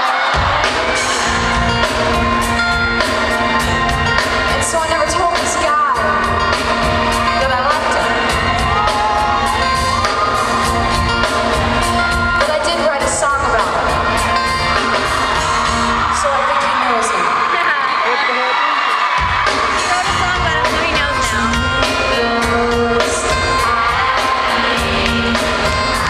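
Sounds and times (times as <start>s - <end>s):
pop song with singer: 0.0s - 17.8s, 18.4s - 26.0s
steady drum beat: 0.3s - 16.3s, 19.1s - 26.0s
bass: 0.4s - 16.5s, 19.3s - 26.0s.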